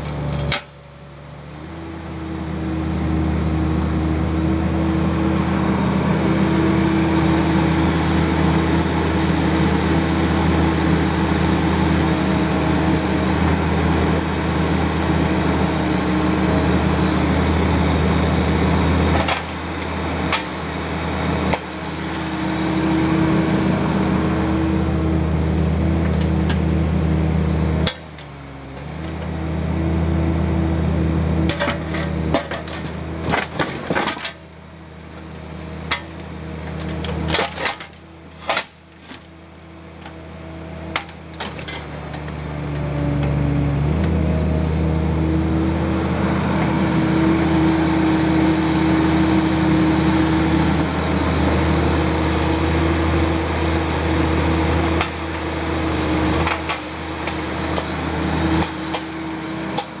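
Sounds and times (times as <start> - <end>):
diesel excavator engine running: 0.0 - 60.0.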